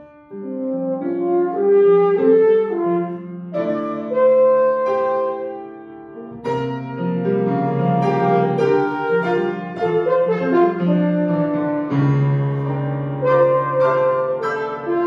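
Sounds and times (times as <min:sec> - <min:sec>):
piano chords and runs: 0:00.0 - 0:15.0
french horn: 0:00.3 - 0:05.6, 0:07.6 - 0:15.0.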